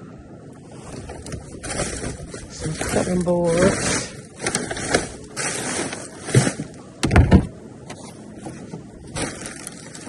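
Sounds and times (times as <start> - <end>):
rustling of items: 0.6 - 10.0.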